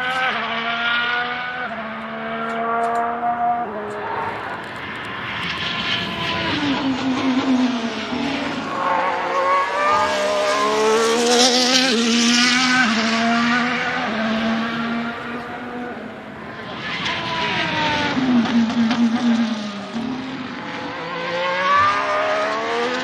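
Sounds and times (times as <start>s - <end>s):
racing car engine with upshifts: 0.0s - 23.0s.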